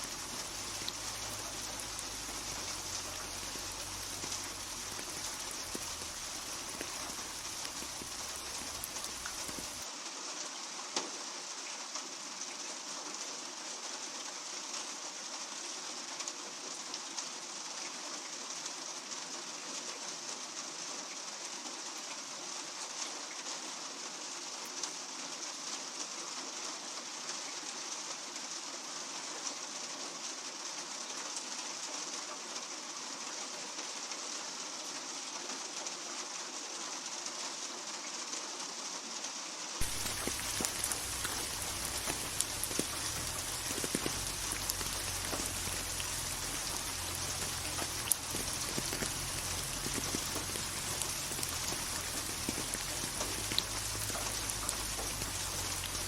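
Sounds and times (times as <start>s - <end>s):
rain on a hard surface: 0.0s - 56.0s.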